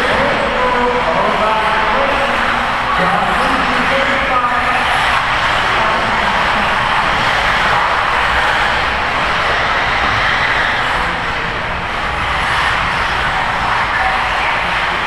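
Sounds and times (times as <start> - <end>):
rc cars buzzing: 0.0 - 15.0.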